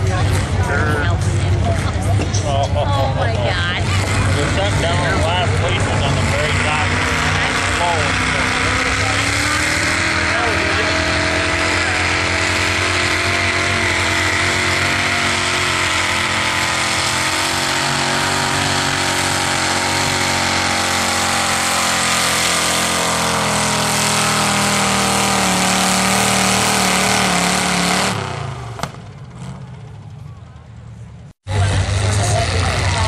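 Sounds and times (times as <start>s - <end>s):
truck engine at full throttle: 0.0s - 33.0s.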